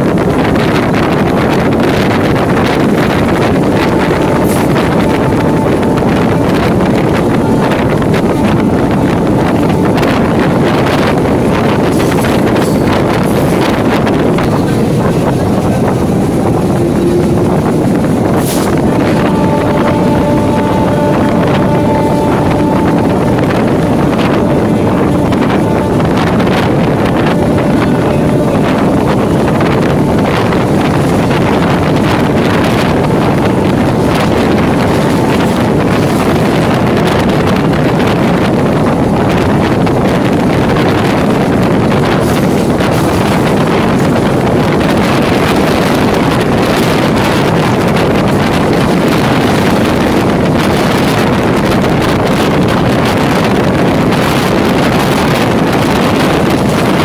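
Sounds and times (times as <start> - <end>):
train running noise: 0.0 - 57.0
wind on microphone: 0.0 - 57.0.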